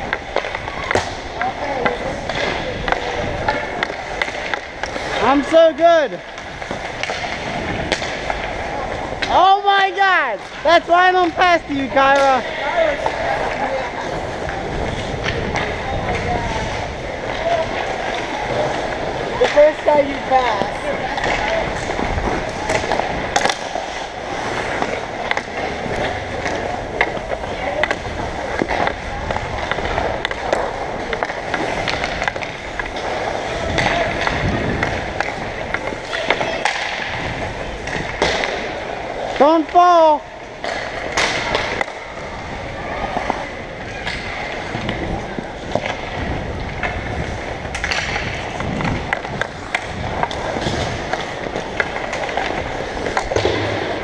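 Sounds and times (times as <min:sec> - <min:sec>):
hockey stick tapping puck: 0:00.0 - 0:09.8, 0:14.4 - 0:42.2, 0:43.0 - 0:54.0
skate blades scraping ice: 0:00.0 - 0:54.0.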